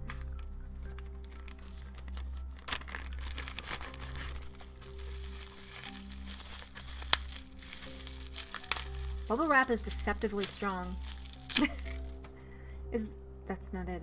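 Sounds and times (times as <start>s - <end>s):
bubble wrap snapping: 0.0s - 12.4s
bubble wrap crinkling: 0.0s - 13.1s
soft background music: 0.0s - 14.0s.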